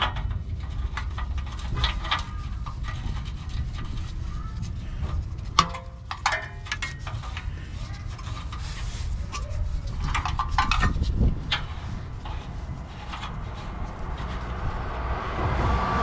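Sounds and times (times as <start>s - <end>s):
light clicks and knocks of tools: 0.0s - 14.6s
steady low rumble: 0.0s - 16.0s.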